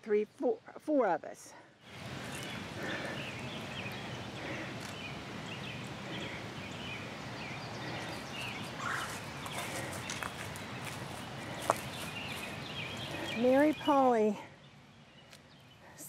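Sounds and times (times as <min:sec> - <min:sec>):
bird chirps: 0:01.8 - 0:16.0.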